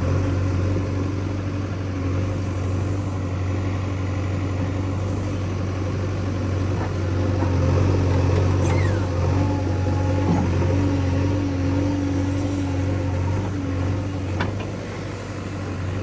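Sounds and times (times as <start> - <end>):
backhoe diesel engine digging: 0.0 - 16.0.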